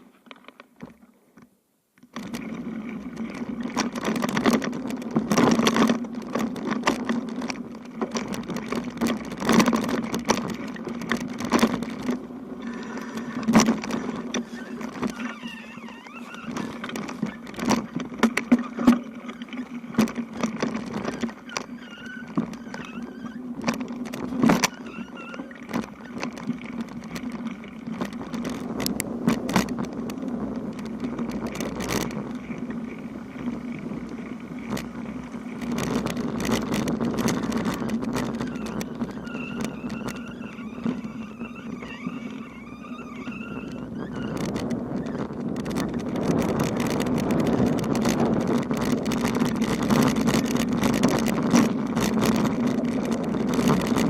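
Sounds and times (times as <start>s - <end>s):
bicycle tyres humming: 2.0s - 54.0s
bike rattling over bumps: 2.0s - 54.0s.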